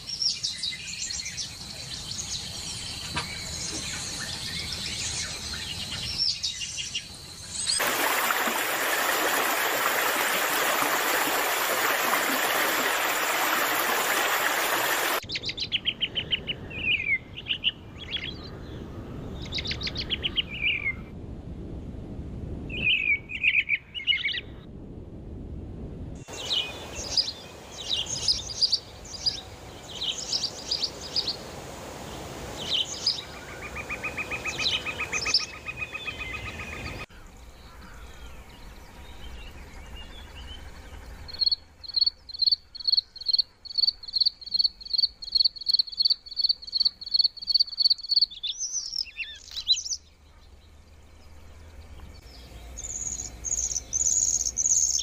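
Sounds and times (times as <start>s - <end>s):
songbirds chirping: 0.0s - 21.1s, 26.2s - 55.0s.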